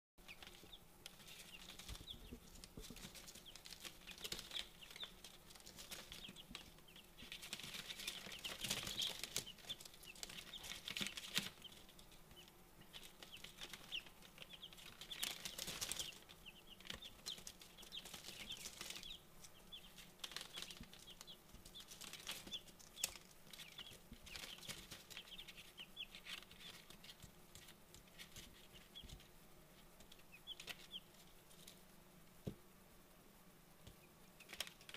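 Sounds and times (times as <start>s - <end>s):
chicks peeping: 0.2s - 32.6s, 33.8s - 34.9s
scratching and rustling on paper: 0.3s - 12.2s, 12.9s - 31.8s, 34.4s - 34.9s.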